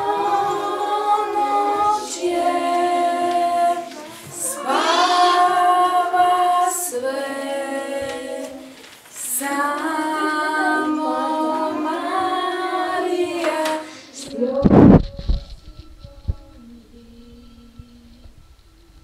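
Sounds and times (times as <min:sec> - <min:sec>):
unaccompanied high voices singing: 0:00.0 - 0:19.0.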